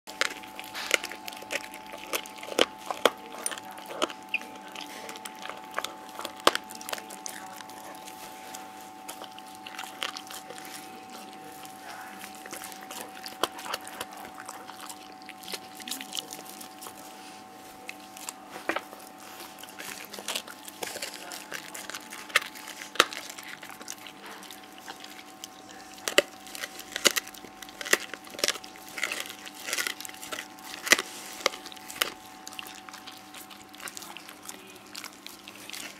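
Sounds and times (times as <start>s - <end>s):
dog crunching bone: 0.1s - 35.9s.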